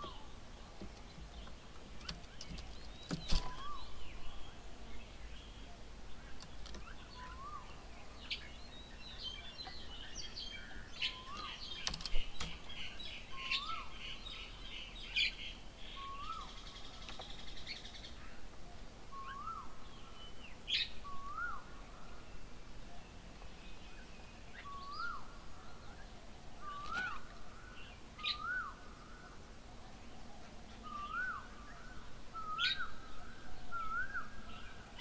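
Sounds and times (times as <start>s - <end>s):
birds chirping and chattering: 0.0s - 35.0s.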